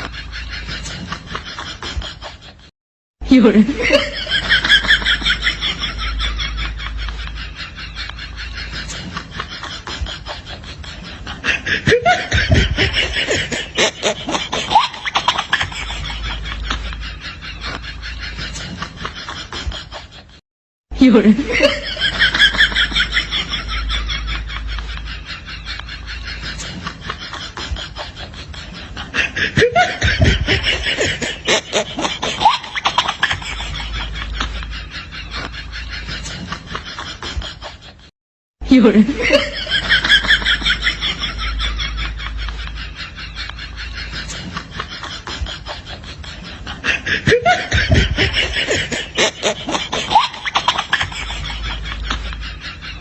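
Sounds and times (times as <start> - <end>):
person laughing: 0.0 - 20.4, 21.0 - 53.0.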